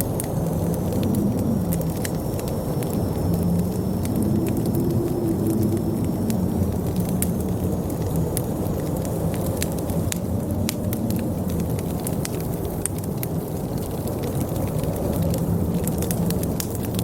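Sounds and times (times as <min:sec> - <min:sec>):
low rumble of wind: 0:00.0 - 0:17.0
wood fire crackling and popping: 0:00.0 - 0:17.0.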